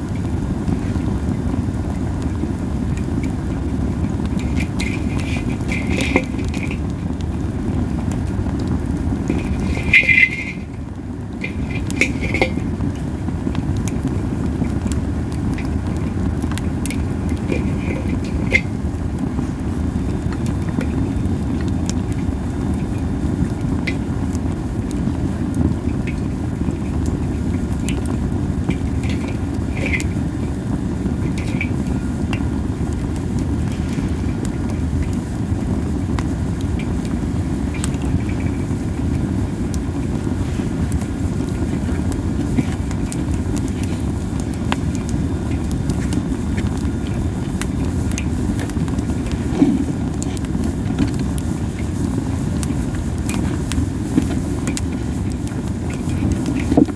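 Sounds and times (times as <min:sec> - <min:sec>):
campfire burning: 0:00.0 - 0:56.9
fire crackles and pops: 0:00.0 - 0:56.9
steam hissing from wood: 0:00.1 - 0:56.9.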